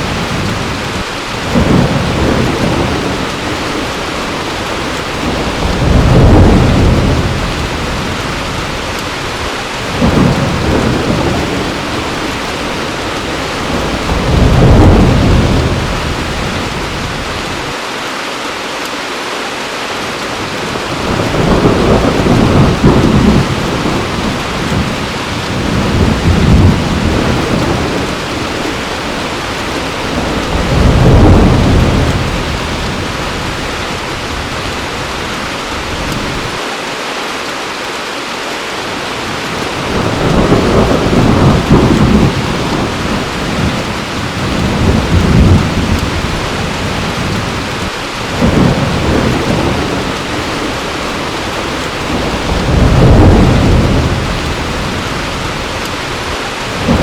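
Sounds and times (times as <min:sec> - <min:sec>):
low rolling thunder: 0:00.0 - 0:17.7, 0:20.4 - 0:36.6, 0:39.2 - 0:57.0
heavy rain pouring: 0:00.0 - 0:57.0.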